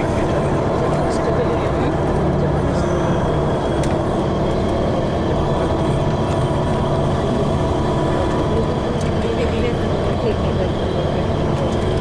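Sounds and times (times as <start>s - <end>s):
bus engine and tyre noise: 0.0s - 12.0s.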